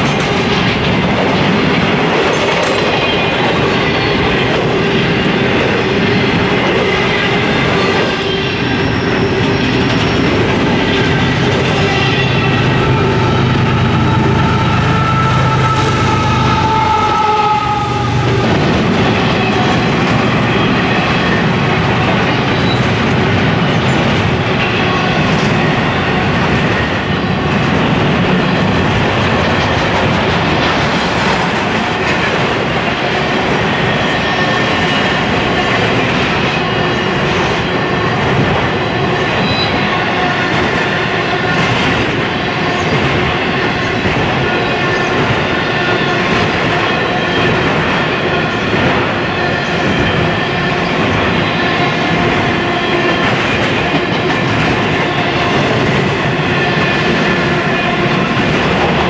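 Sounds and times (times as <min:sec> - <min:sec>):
clickety-clack over rail joints: 0:00.0 - 0:17.1, 0:17.7 - 0:59.0
freight train wheels on rail: 0:00.0 - 0:59.0.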